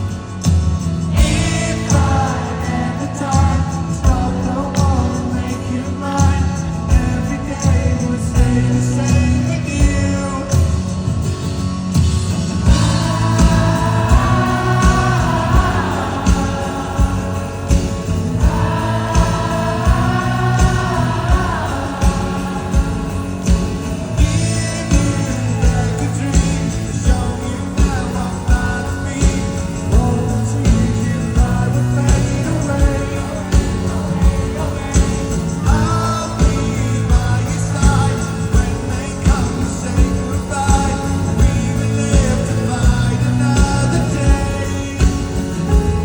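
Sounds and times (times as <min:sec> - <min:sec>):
crowd singing along: 0:00.0 - 0:46.0
rock band playing: 0:00.0 - 0:46.0.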